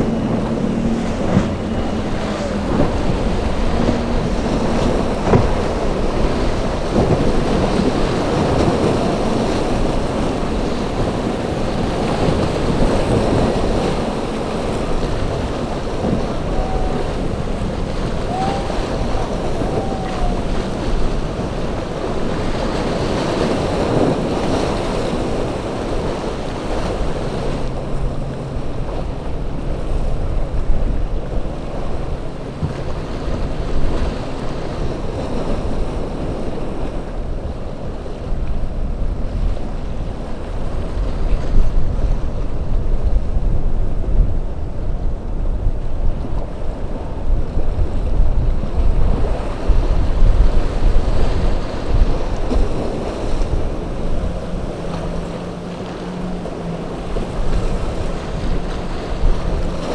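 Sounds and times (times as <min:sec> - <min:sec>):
boat engines running: 0:00.0 - 0:59.9
rough sea and waves: 0:00.0 - 0:59.9
wind buffeting microphone: 0:00.0 - 0:59.9.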